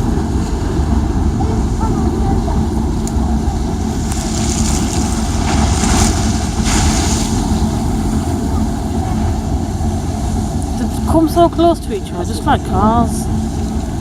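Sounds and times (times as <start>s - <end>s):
boat engines rumbling: 0.0s - 14.0s
water washing: 0.0s - 14.0s
wind buffeting microphone: 0.0s - 14.0s.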